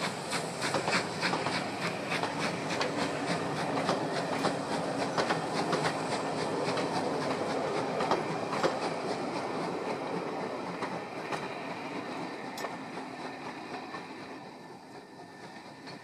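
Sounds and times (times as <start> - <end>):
train wheels clicking on rails: 0.0 - 16.0.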